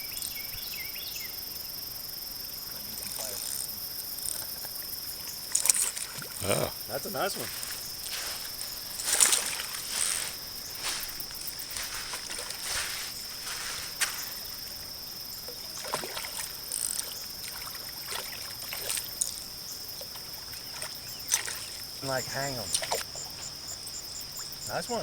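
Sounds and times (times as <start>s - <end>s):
insects shrilling: 0.2s - 25.0s
light water splashes: 2.6s - 23.6s.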